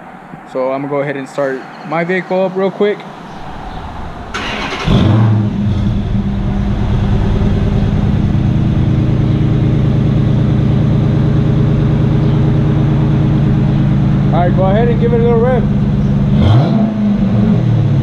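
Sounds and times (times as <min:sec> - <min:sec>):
car engine revving and idling: 0:03.0 - 0:18.0.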